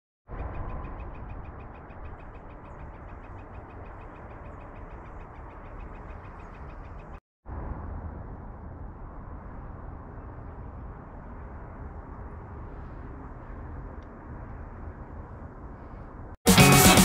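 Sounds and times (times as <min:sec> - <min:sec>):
wind rumble on microphone: 0:00.3 - 0:16.4.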